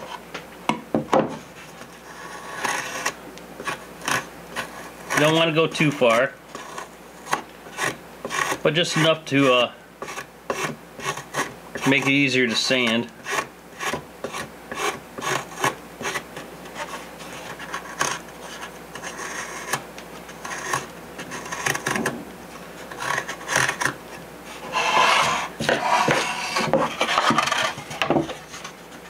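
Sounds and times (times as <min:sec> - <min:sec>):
knife scraping wood: 0:01.5 - 0:29.0.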